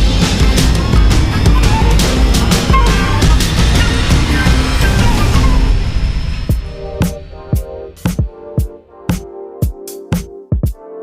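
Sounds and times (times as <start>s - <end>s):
heavy rock music: 0.0s - 10.7s.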